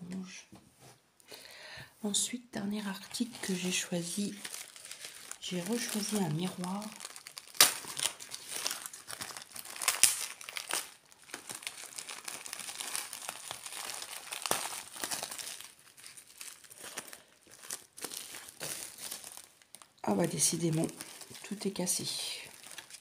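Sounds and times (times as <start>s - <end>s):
plastic packaging crinkling: 2.9s - 23.0s.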